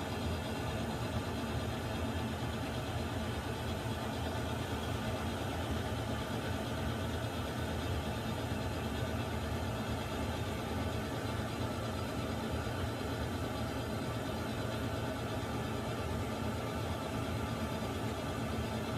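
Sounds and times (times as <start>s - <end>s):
water heater rumbling and hissing: 0.0s - 18.9s.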